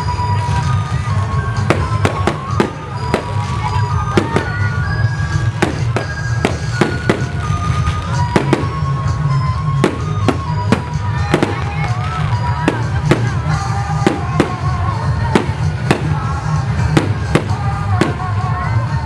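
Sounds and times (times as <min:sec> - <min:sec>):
music playing: 0:00.0 - 0:19.0
fireworks bangs: 0:00.1 - 0:18.7.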